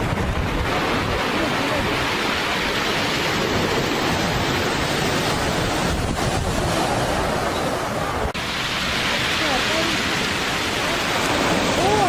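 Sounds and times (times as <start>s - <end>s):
heavy surf breaking: 0.0s - 12.0s.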